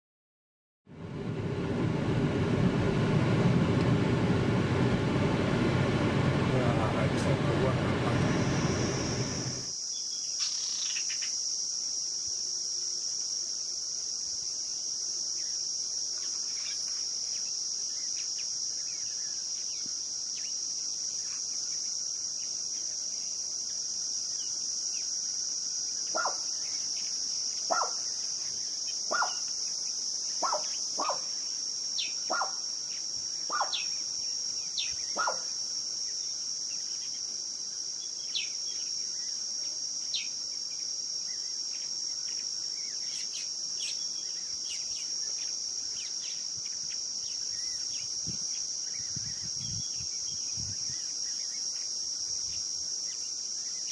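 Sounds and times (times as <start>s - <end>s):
crickets chirring: 2.8s - 53.9s.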